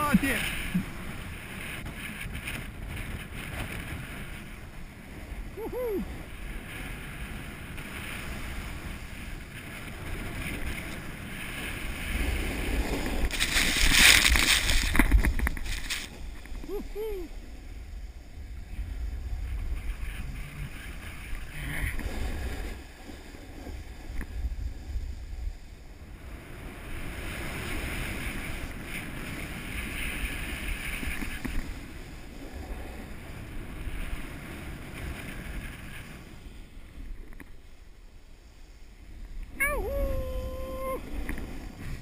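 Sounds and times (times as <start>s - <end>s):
snowboard hissing through snow: 0.0s - 2.3s, 4.0s - 42.0s
wind buffeting microphone: 0.0s - 38.1s, 38.8s - 42.0s.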